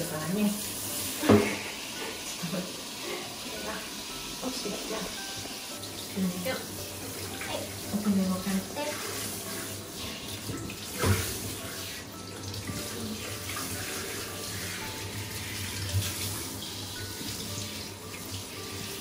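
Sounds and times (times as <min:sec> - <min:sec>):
shower water spraying: 0:00.0 - 0:19.0.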